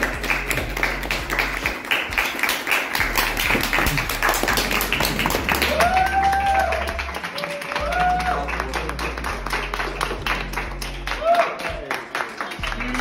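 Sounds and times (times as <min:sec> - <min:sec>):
group clapping and cheering: 0:00.0 - 0:13.0.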